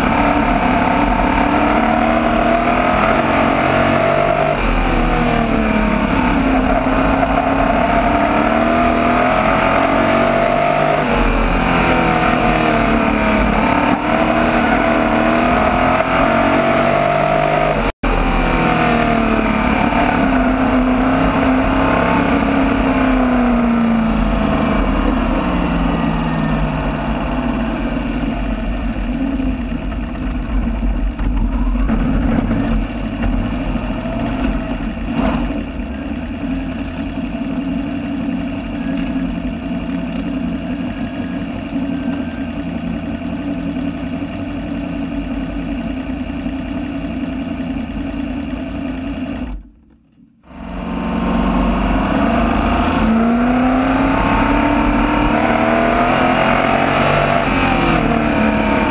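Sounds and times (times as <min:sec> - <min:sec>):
race car engine: 0:00.0 - 0:58.9.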